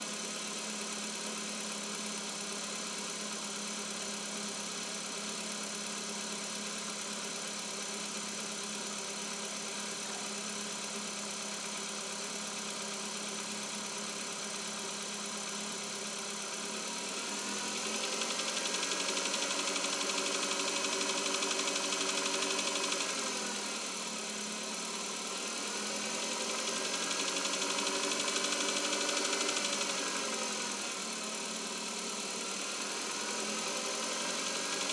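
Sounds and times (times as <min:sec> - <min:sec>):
car engine idling and revving: 0:00.0 - 0:34.9
engine knock: 0:00.1 - 0:34.9.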